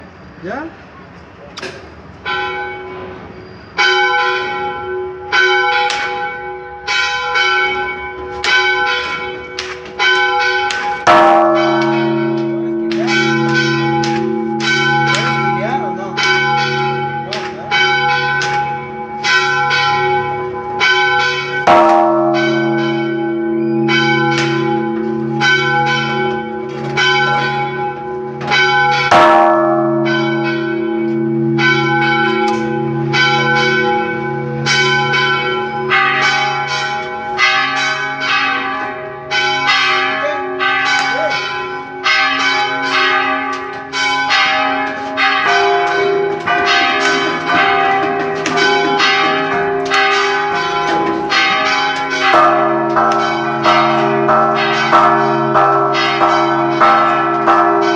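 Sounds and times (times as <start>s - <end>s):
church bells pealing: 1.6s - 57.9s
deep bell stroke: 2.2s - 57.9s.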